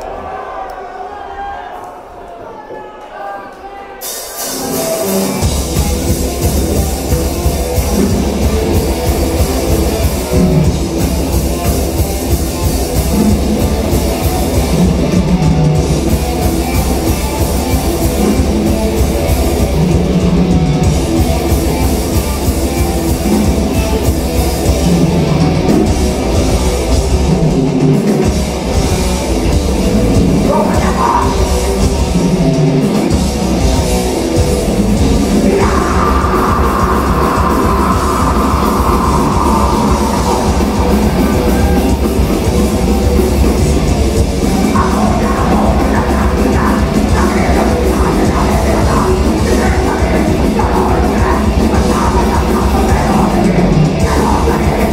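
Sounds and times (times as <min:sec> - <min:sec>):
heavy metal band playing: 0:03.9 - 0:54.9.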